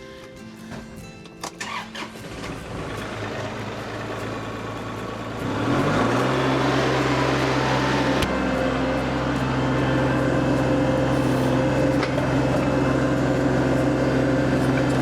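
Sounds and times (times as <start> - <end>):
tractor diesel engine revving: 1.6 - 15.0.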